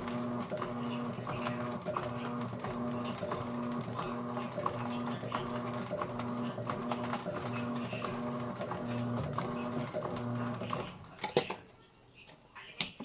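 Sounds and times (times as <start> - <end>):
washing machine agitating: 0.0 - 11.2.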